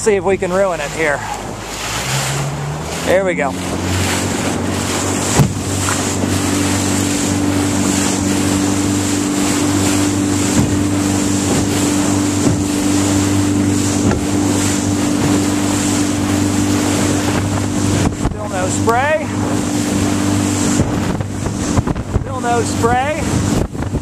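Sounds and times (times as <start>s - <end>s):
hull knocking on waves: 0.0s - 24.0s
outboard motor running: 0.0s - 24.0s
water rushing along hull: 0.0s - 24.0s
wind on microphone: 0.0s - 24.0s.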